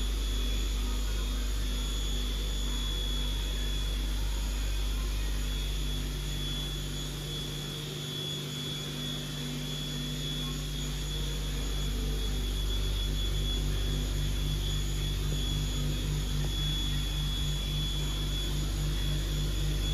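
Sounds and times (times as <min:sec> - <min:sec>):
thin high whine: 0:00.0 - 0:19.9.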